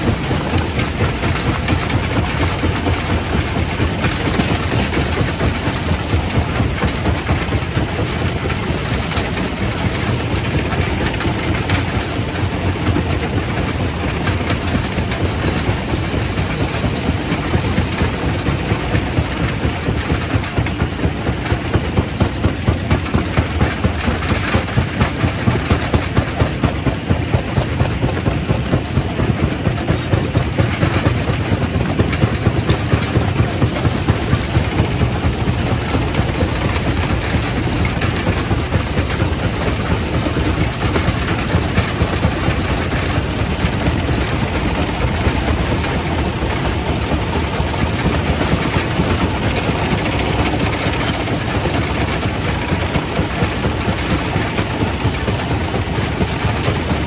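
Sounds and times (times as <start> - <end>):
rock crusher rumbling: 0.0 - 57.0.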